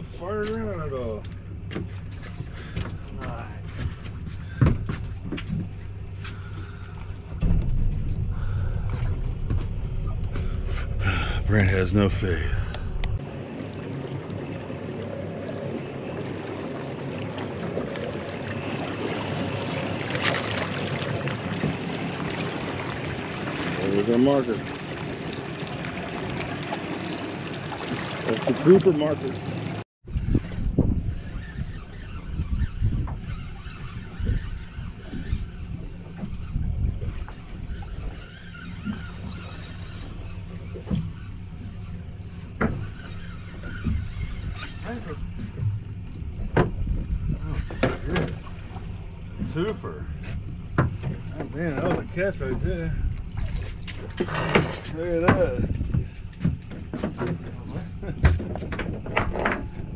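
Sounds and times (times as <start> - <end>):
wind rumble: 0.0 - 28.6, 29.2 - 51.4, 52.0 - 59.9
outboard motor humming: 0.0 - 59.9
water washing at stern: 0.0 - 59.9.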